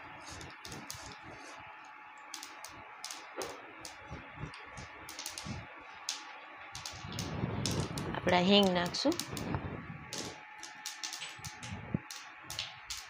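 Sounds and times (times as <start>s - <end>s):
oil sizzling: 0.0s - 13.0s
seeds popping in hot oil: 0.2s - 13.0s.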